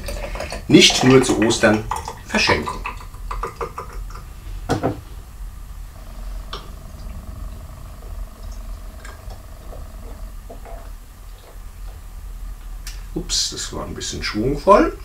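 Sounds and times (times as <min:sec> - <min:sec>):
thick liquid gurgling into bottle: 0:00.0 - 0:12.6.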